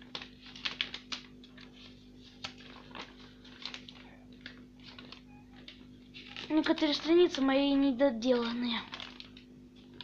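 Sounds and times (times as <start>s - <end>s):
paper pages rustling: 0.0s - 7.6s, 8.3s - 10.0s
faint low hum: 0.0s - 10.0s.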